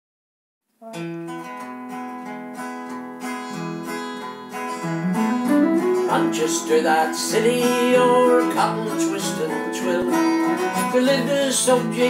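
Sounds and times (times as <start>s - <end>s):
acoustic guitar strumming: 0.8s - 12.0s.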